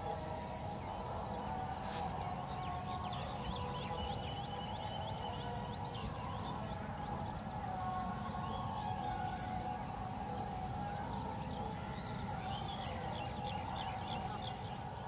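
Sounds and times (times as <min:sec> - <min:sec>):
steady high drone: 0:00.0 - 0:15.0.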